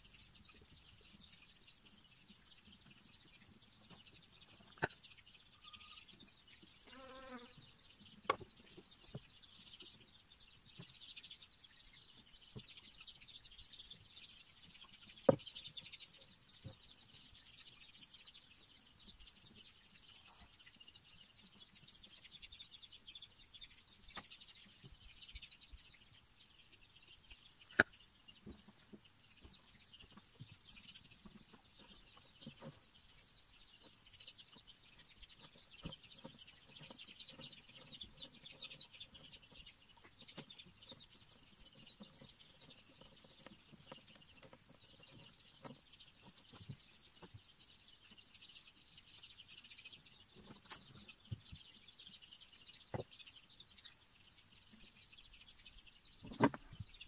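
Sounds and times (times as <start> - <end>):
faint bird chirps: 0.0 - 57.0
insects droning: 0.0 - 57.0.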